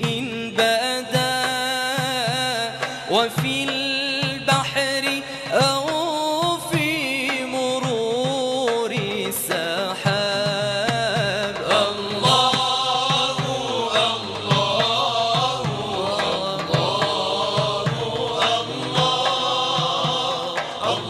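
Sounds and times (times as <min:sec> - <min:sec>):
low rhythmic beat: 0:00.0 - 0:21.0
person singing devotional chant: 0:00.0 - 0:21.0.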